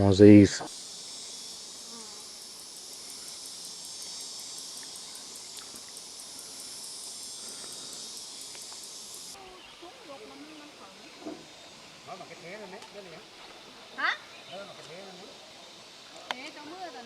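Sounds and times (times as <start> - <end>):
insects chorus pulsing: 0.0 - 17.0.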